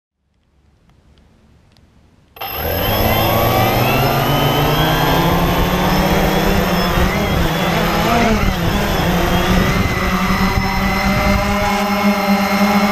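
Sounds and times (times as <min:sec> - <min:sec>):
drone propellers whining: 0:02.4 - 0:12.9.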